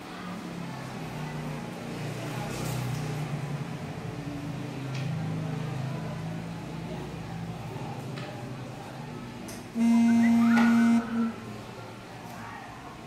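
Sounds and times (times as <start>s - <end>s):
noisy background: 0.0s - 13.0s.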